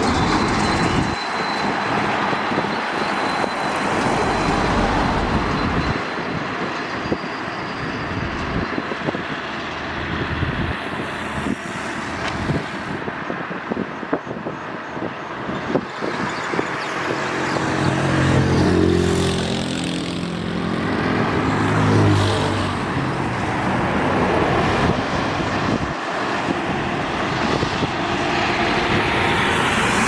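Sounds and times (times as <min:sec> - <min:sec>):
highway traffic passing: 0:00.0 - 0:30.0.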